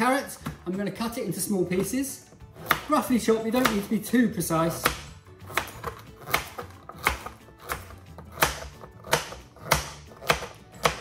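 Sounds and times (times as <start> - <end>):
knife chopping on board: 1.7 - 11.0.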